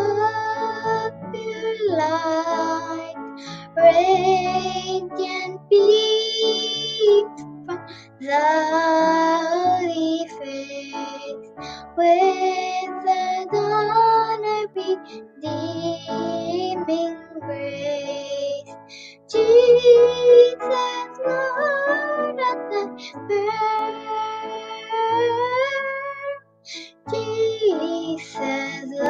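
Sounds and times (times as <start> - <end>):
girl singing: 0.0 - 29.0
instrumental accompaniment: 0.0 - 29.0.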